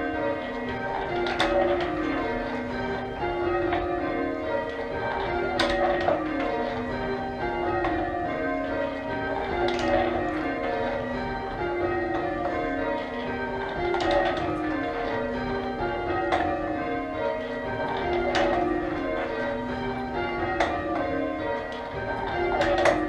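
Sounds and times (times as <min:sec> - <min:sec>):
church bells change ringing: 0:00.0 - 0:23.0.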